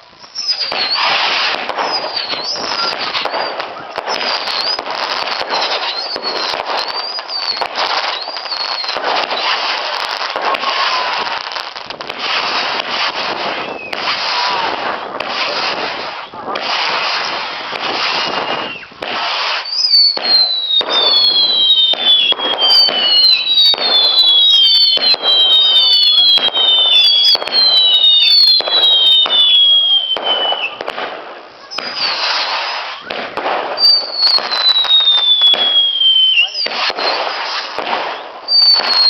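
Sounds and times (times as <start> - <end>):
firework hiss and crackle: 0.0 - 39.0
sharp firework cracks: 0.0 - 39.0
whistling firework shots: 0.0 - 39.0.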